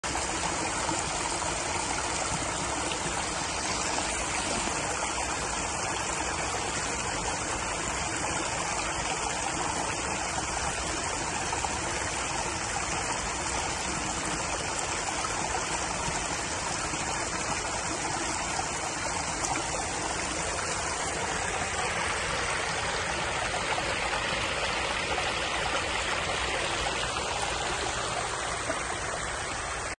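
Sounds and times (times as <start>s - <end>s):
water splashing over rocks: 0.0s - 30.0s.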